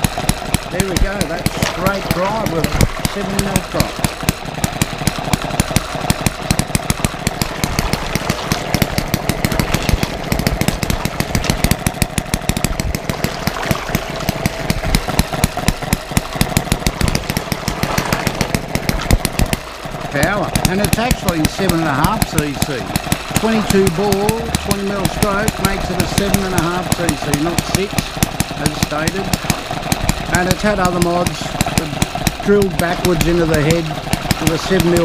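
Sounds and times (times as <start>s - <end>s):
small model engine ticking and popping: 0.0s - 35.0s.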